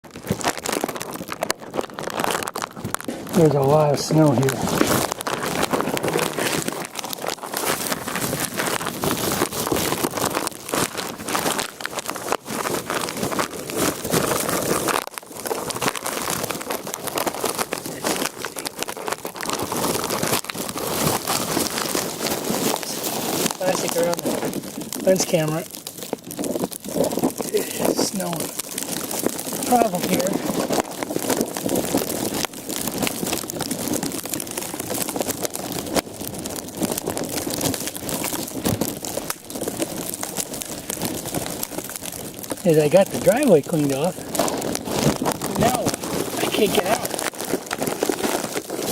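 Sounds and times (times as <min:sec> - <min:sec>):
plastic crackles: 0:00.0 - 0:48.9
plastic crinkling on microphone: 0:00.0 - 0:48.9.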